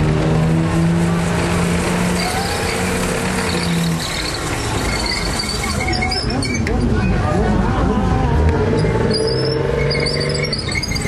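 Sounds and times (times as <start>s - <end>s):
tracked vehicle engine running: 0.0s - 11.0s.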